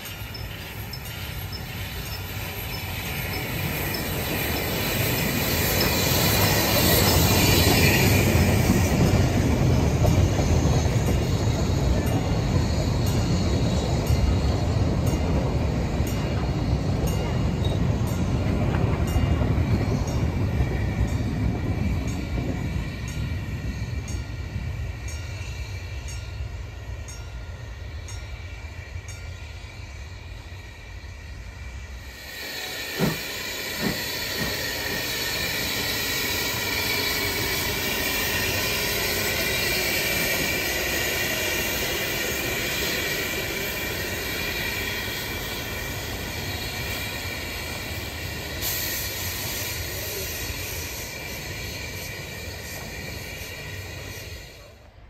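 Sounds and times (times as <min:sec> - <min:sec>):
train wheels clicking over rail joints: 0:00.0 - 0:26.3, 0:32.0 - 0:54.7
steam hissing from locomotive: 0:00.0 - 0:55.0.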